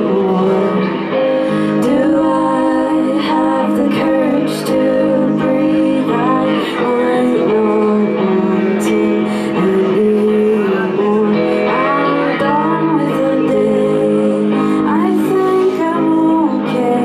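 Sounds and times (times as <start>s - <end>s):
electric guitar held chords: 0.0s - 17.0s
woman singing into a microphone: 0.0s - 17.0s.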